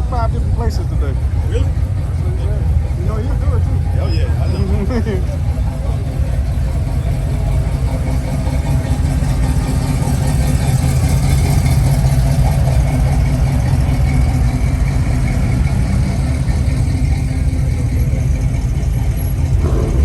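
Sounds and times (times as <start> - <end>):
car engine exhaust rumble: 0.0 - 20.0.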